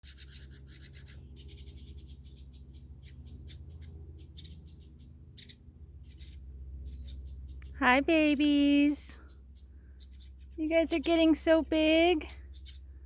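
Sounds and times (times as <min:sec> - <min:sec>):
low hum: 0:00.0 - 0:13.0
nestling birds chirping: 0:00.0 - 0:13.0.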